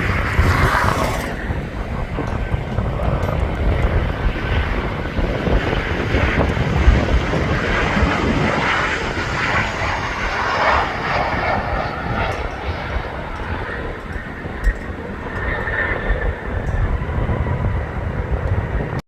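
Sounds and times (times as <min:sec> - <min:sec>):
jet airliner engine noise: 0:00.0 - 0:19.0
wind rumbling on microphone: 0:00.0 - 0:19.0.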